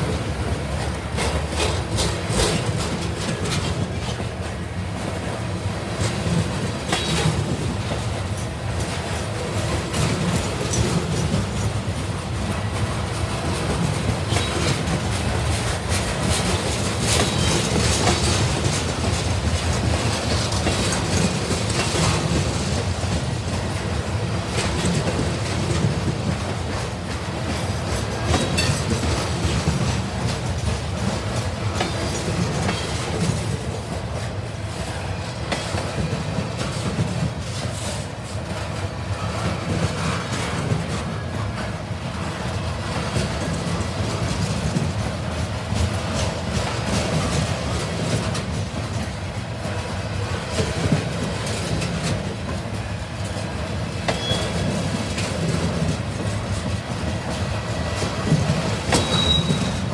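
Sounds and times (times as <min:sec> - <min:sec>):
clickety-clack over rail joints: 0:00.0 - 0:59.9
freight train wheels rumbling: 0:00.0 - 0:59.9.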